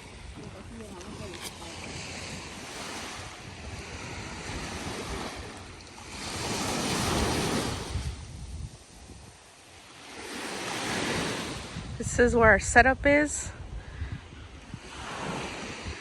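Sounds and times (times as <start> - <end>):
ocean waves on a beach: 0.0 - 16.0.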